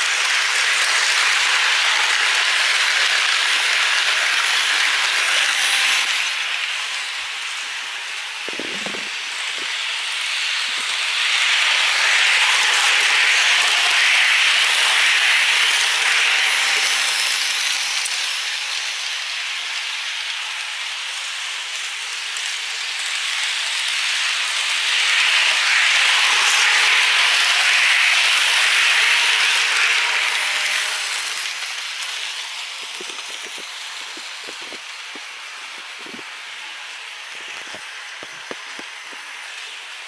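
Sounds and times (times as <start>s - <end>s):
model train wheels clattering: 0.0s - 40.0s.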